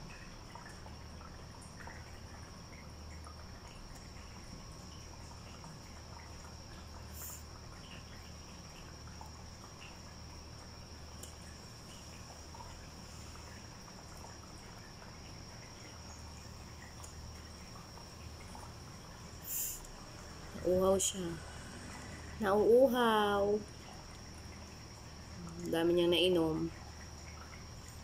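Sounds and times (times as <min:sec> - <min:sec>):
low steady hum: 0:00.0 - 0:28.0
water trickling: 0:00.0 - 0:28.0.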